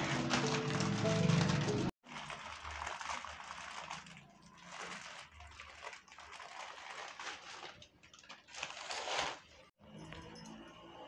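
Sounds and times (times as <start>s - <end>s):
plastic packet rustling and crinkling: 0.0s - 9.7s.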